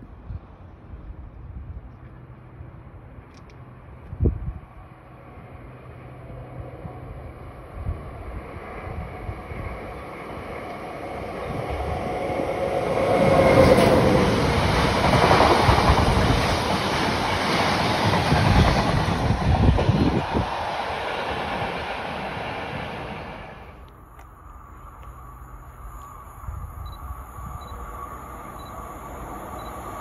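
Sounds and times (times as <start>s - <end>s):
freight train passing: 0.0s - 30.0s.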